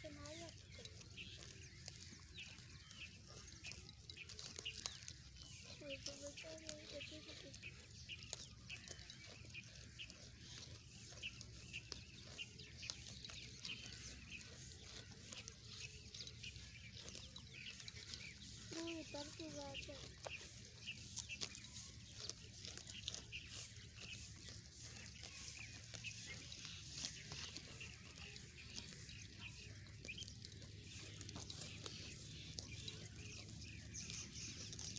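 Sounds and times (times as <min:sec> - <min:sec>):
sheep chewing grass: 0:00.0 - 0:34.9
small birds chirping: 0:00.0 - 0:34.9.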